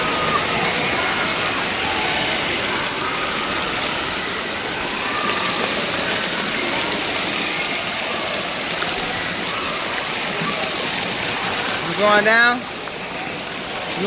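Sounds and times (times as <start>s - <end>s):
faint voices: 0.0s - 14.0s
running and splashing water: 0.0s - 14.0s.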